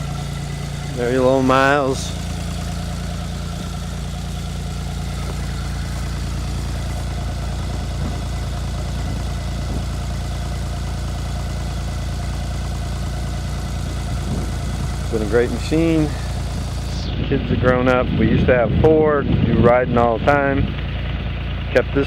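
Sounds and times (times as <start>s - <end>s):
snowmobile engine idling: 0.0s - 22.0s.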